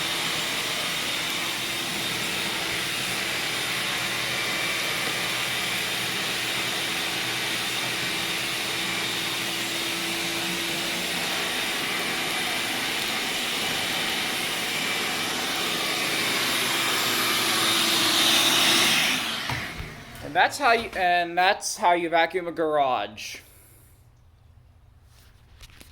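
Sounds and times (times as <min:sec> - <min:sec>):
vacuum cleaner running: 0:00.0 - 0:21.2.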